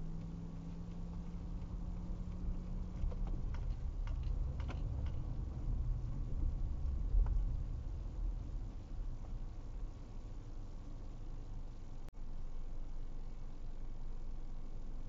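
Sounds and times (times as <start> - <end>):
car rumbling: 0.0 - 15.0.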